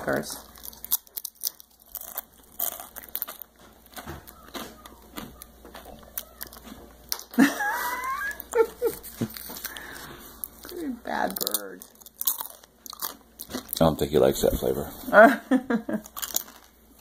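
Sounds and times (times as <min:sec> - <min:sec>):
crackers crunching and chewing: 0:00.0 - 0:14.9, 0:16.0 - 0:17.0.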